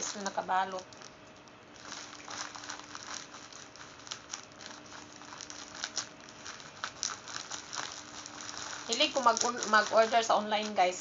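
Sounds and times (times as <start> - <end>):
bubble wrap crinkling: 0.0 - 11.0
scissors cutting plastic: 1.8 - 11.0.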